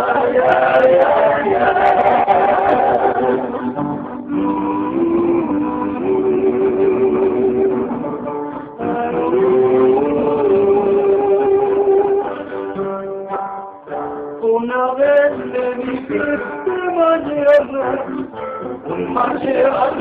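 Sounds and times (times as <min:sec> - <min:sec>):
voices singing long notes: 0:00.0 - 0:12.8, 0:15.3 - 0:20.0
acoustic guitar: 0:00.0 - 0:20.0.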